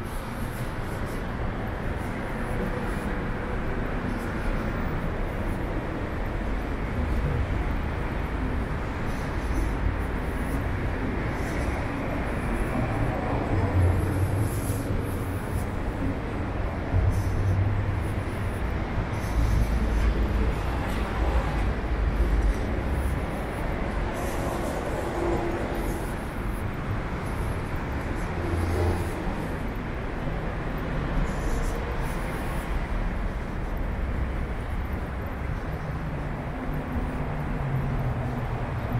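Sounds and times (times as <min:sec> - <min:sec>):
city background rumble: 0:00.0 - 0:38.9.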